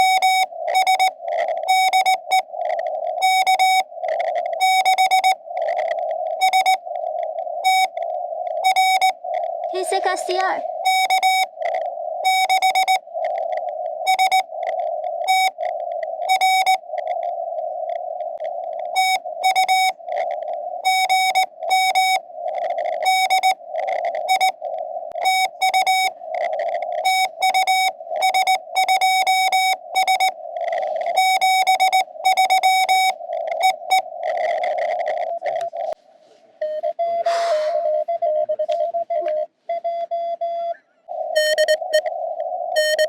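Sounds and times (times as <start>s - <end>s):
morse code beeping tone: 0.0s - 2.5s, 3.2s - 6.9s, 7.6s - 8.0s, 8.6s - 13.1s, 14.0s - 14.5s, 15.2s - 15.6s, 16.2s - 16.9s, 18.9s - 20.1s, 20.8s - 24.6s, 25.2s - 36.0s, 36.6s - 43.0s
receiver noise hiss: 0.0s - 43.0s.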